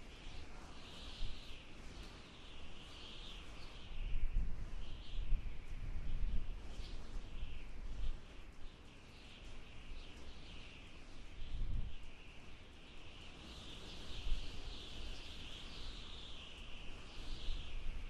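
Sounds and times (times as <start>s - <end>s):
strong wind howling in gusts: 0.0s - 8.7s, 9.4s - 18.0s.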